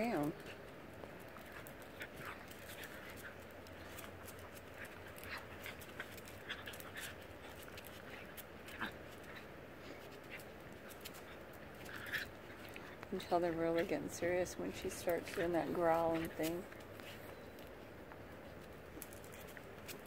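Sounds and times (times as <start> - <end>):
dogs scuffling: 0.0 - 20.0
faint dog noises: 0.0 - 20.0
claws clicking on concrete: 0.1 - 13.9, 16.2 - 20.0.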